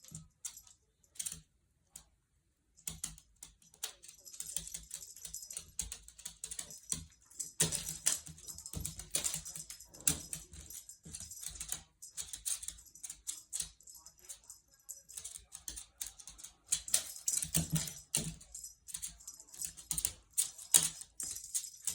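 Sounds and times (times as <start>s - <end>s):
cat paws and toy clicking: 2.8s - 21.9s.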